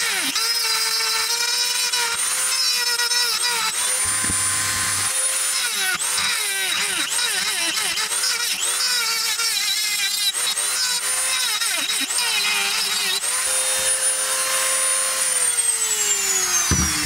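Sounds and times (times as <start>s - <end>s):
rotary tool grinding steel: 0.0s - 17.0s.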